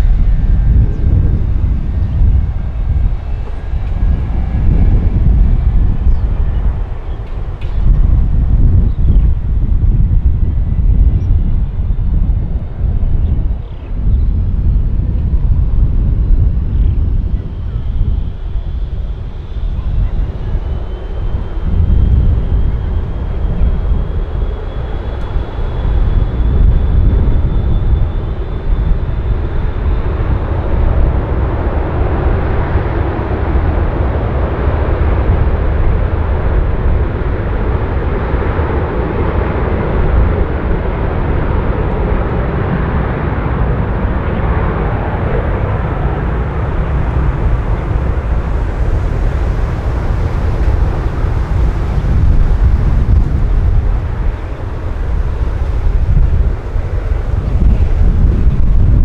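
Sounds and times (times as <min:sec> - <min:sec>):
high jet whine: 0:00.0 - 0:59.0
jet airliner rumble: 0:00.0 - 0:59.0.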